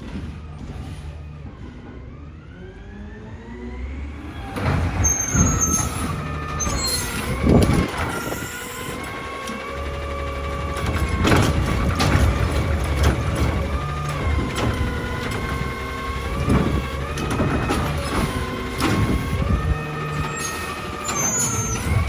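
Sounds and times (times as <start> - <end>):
garbage truck engine whine: 0.0 - 22.0
loud bangs: 4.2 - 22.0.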